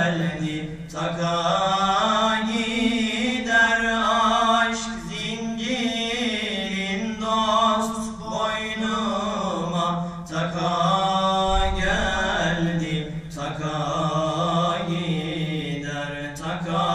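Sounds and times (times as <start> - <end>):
young men singing unaccompanied: 0.0 - 16.9.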